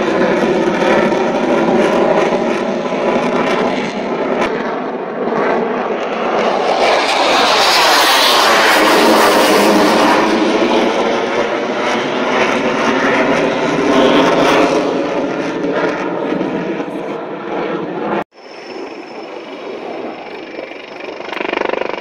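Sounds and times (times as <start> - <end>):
helicopter: 0.0 - 22.0
jet engine roar overhead: 0.0 - 22.0.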